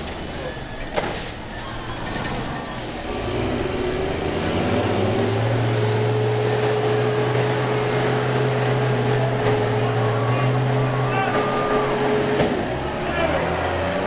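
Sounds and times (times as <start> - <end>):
bus engines running hard: 0.0 - 14.0.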